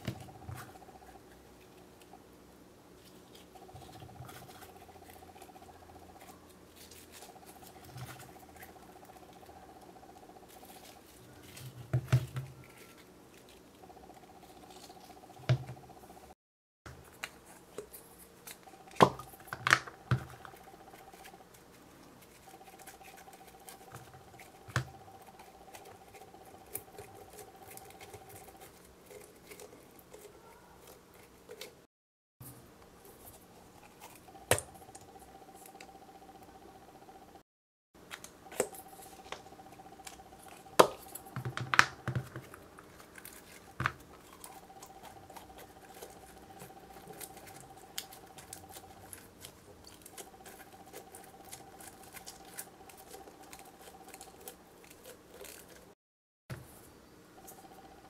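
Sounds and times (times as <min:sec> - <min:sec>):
faint hum: 0:00.0 - 0:31.8, 0:32.4 - 0:37.4, 0:38.0 - 0:58.0.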